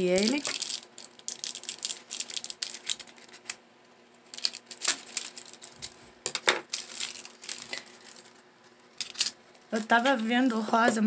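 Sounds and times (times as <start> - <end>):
beads and plastic spool clattering: 0.0 - 3.6, 4.3 - 11.0.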